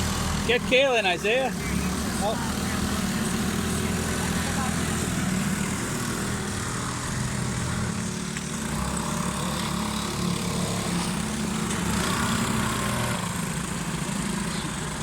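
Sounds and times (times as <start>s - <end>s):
small boat motors humming: 0.0s - 15.0s.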